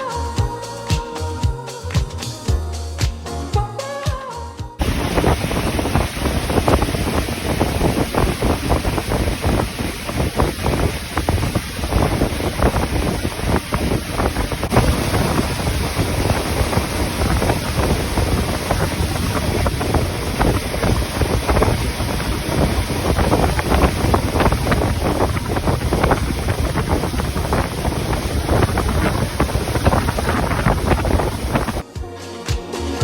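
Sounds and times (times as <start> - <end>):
wind buffeting microphone: 4.8 - 31.8.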